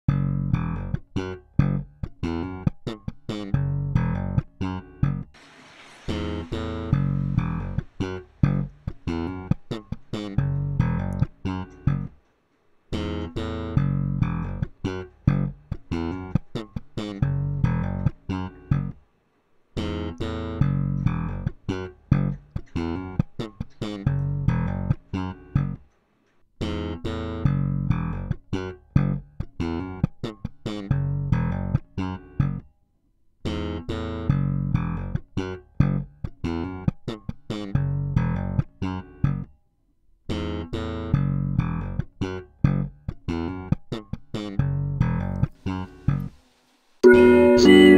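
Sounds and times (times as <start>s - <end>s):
slap bass guitar music: 0.0s - 5.3s, 6.9s - 12.2s, 13.0s - 19.0s, 19.8s - 25.8s, 26.6s - 32.7s, 33.5s - 39.5s, 40.3s - 46.3s.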